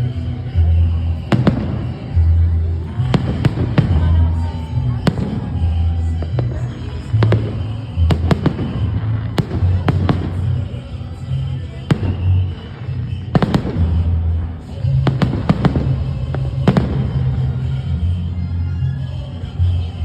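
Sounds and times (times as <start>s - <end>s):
music playing: 0.0s - 20.0s
fireworks bangs: 0.4s - 18.2s.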